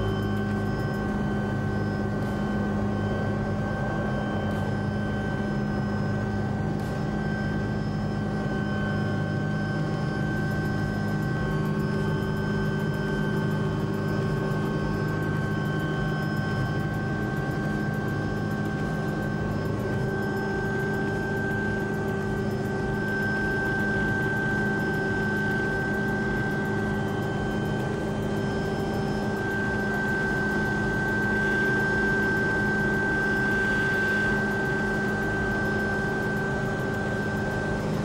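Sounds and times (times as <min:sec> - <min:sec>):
helicopter engine and rotors: 0:00.0 - 0:38.0.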